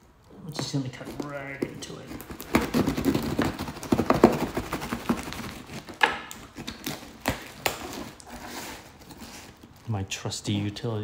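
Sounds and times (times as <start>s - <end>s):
knife cutting cardboard and tape: 0.4s - 9.8s
scraping and crackling: 0.4s - 10.8s.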